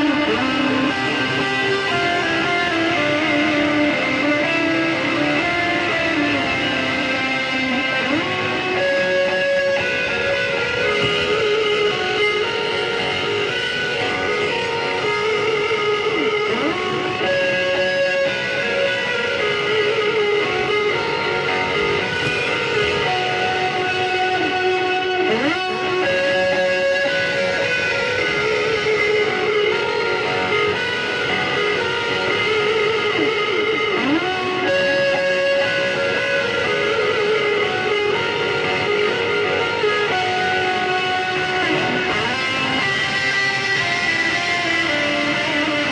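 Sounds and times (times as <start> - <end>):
electric guitar slow melody: 0.0 - 45.9.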